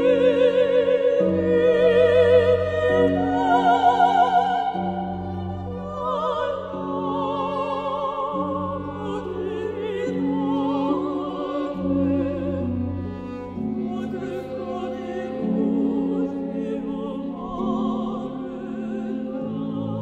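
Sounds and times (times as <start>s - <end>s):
women singing classical duet: 0.0s - 20.0s.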